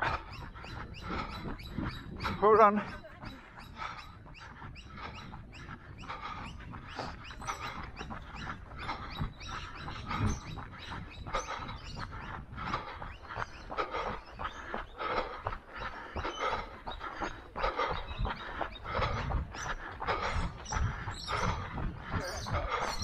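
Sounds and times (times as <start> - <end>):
wind rumble on microphone: 0.0 - 14.1, 18.0 - 23.0.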